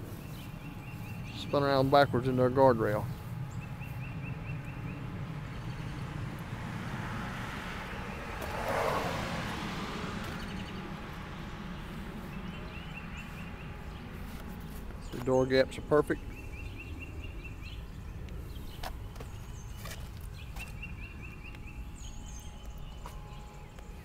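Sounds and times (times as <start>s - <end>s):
steady low rumble: 0.0s - 24.0s
vehicle passing: 2.3s - 24.0s.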